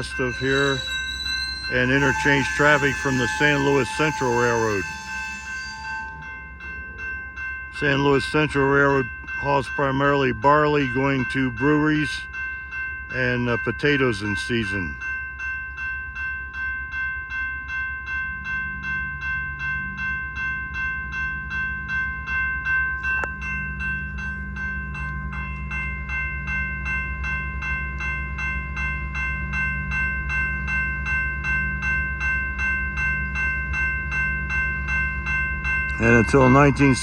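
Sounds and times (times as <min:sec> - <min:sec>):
diesel locomotive running: 0:00.0 - 0:16.5, 0:17.6 - 0:37.0
crossing bell ringing: 0:00.0 - 0:37.0.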